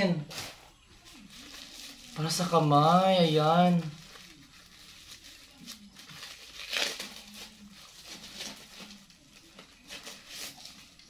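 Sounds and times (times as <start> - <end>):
packaging crinkling and rustling: 0.3 - 11.0.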